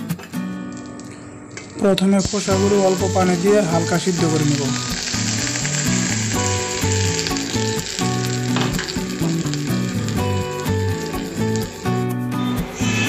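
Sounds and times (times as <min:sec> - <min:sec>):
background music: 0:00.0 - 0:13.0
water sizzling in a hot pan: 0:00.6 - 0:13.0.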